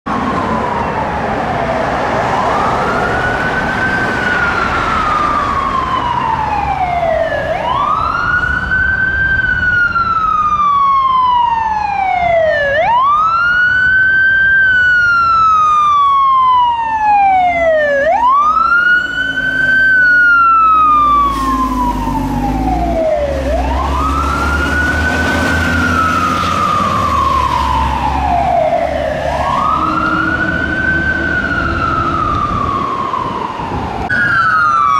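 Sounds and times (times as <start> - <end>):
fire truck siren wailing: 0.1 - 34.9.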